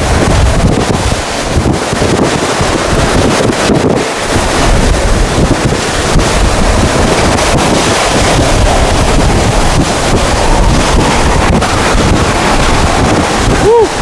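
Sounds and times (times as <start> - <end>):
hurricane winds roaring: 0.0 - 14.0
wind buffeting microphone: 0.0 - 14.0.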